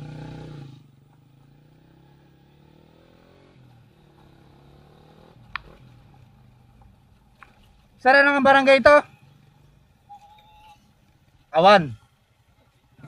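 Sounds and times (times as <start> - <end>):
motorcycle engine idling: 0.0 - 3.0, 3.6 - 11.4.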